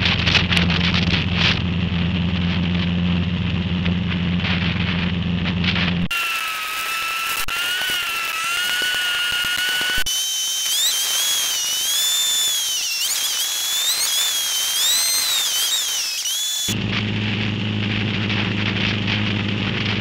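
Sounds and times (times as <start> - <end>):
high-pitched engine whine: 0.0 - 20.0.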